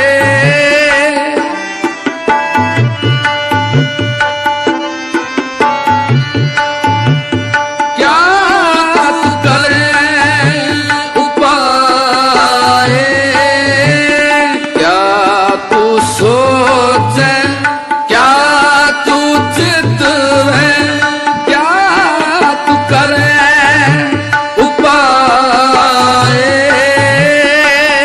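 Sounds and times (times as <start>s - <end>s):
man singing: 0.0s - 4.2s, 7.6s - 28.0s
harmonium held notes: 0.0s - 28.0s
tabla rhythm: 0.0s - 28.0s.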